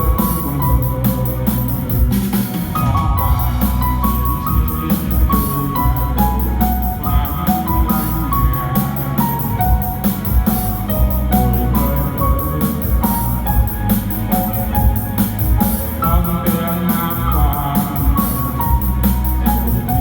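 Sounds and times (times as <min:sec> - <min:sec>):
keyboard melody of held notes: 0:00.0 - 0:20.0
music with drum beat and bass: 0:00.0 - 0:20.0.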